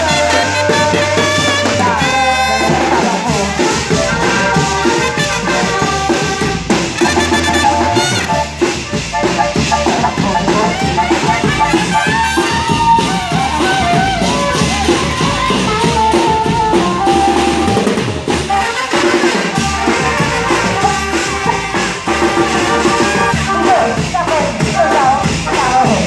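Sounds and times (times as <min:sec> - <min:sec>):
drum kit beat: 0:00.0 - 0:26.0.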